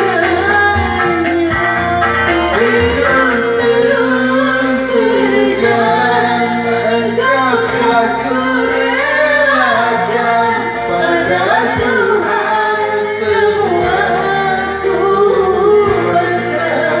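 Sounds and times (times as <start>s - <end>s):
karaoke backing track: 0.0s - 17.0s
woman singing: 0.0s - 17.0s.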